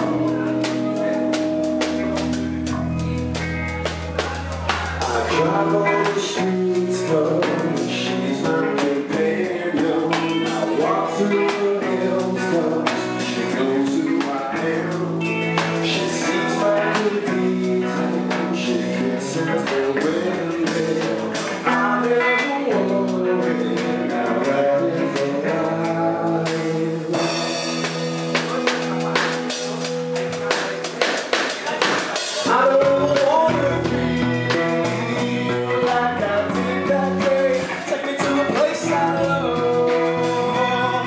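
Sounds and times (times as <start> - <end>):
person singing: 0.0 - 41.0.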